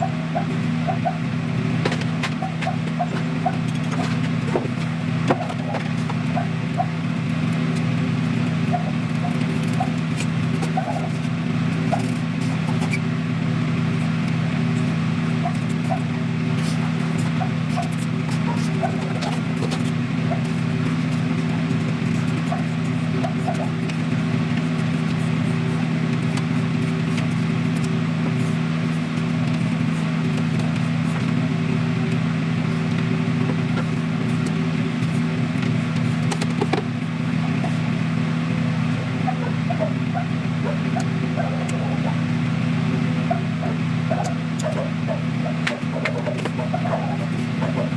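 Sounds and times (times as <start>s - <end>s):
low mechanical hum: 0.0s - 47.9s.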